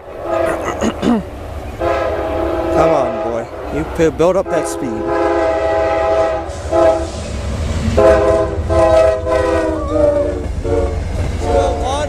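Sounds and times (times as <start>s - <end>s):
low train rumble: 0.0s - 12.0s
locomotive air horn blasts: 0.1s - 0.8s, 1.8s - 7.2s, 8.0s - 12.0s.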